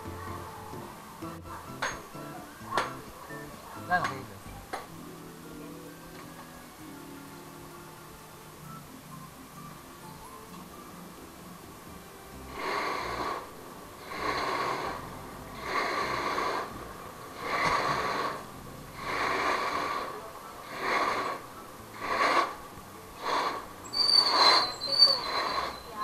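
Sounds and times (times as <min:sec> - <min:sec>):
rhythmic breathing: 0:00.0 - 0:26.0.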